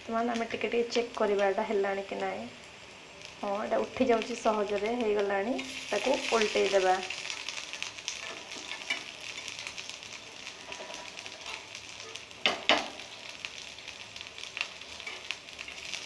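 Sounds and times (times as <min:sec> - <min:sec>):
fritters sizzling in oil: 0:00.0 - 0:16.0.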